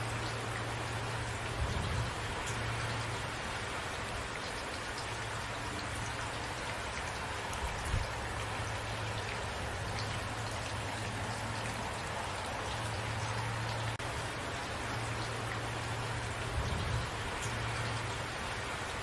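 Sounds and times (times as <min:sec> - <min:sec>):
raindrops ticking: 0:00.0 - 0:19.0
steady rain falling: 0:00.0 - 0:19.0.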